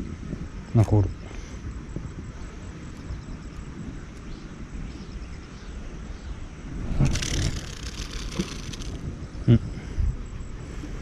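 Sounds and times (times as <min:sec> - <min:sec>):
noisy rustle: 0:00.0 - 0:11.0.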